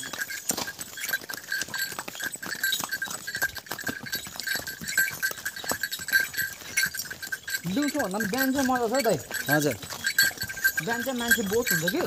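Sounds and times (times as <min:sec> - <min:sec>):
hooves clopping on a stony path: 0:00.0 - 0:12.0.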